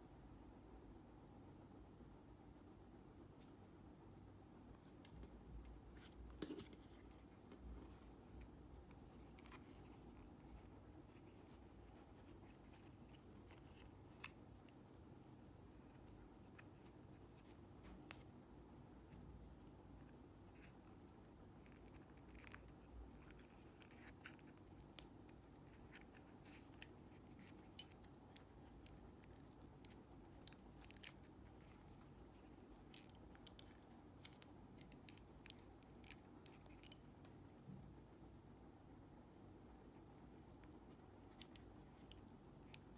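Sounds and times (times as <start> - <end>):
faint plastic clicks and scratches: 4.8 - 18.4, 19.0 - 38.3, 39.6 - 42.9.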